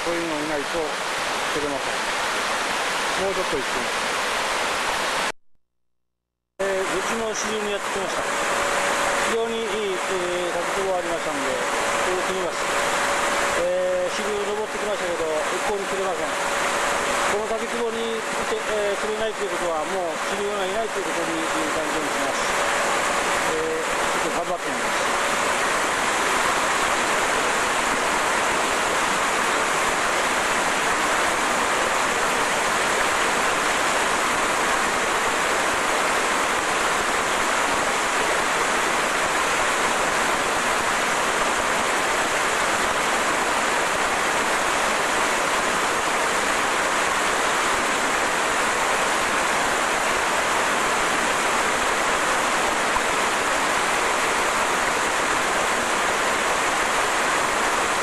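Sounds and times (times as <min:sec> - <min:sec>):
waterfall rushing water: 0:00.0 - 0:05.3, 0:06.6 - 0:58.0.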